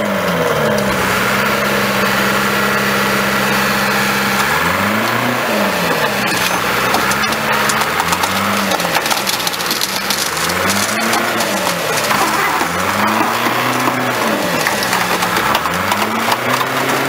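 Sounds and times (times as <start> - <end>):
heavy equipment engine revving: 0.0 - 17.0.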